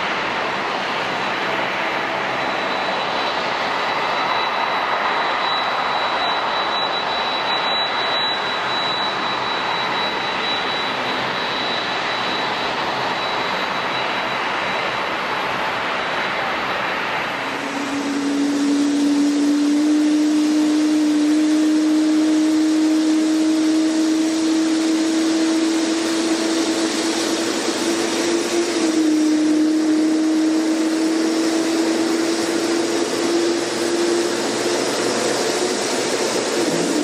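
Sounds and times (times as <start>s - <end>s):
airliner engines whining: 0.0s - 37.0s.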